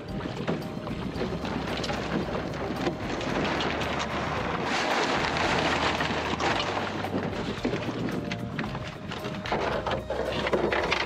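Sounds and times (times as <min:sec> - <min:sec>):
sail and rigging rustling: 0:00.0 - 0:11.0
wind buffeting microphone: 0:00.0 - 0:11.0.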